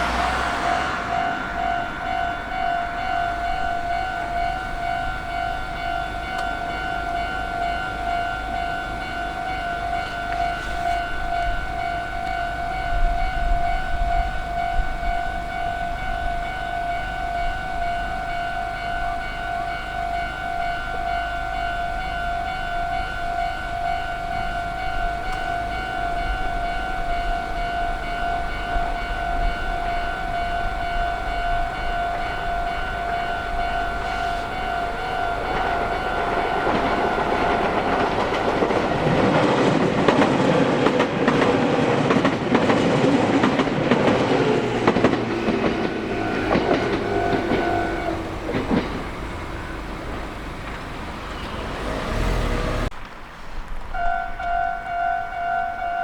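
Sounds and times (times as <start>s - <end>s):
level crossing alarm: 0.0s - 52.4s, 54.0s - 56.0s.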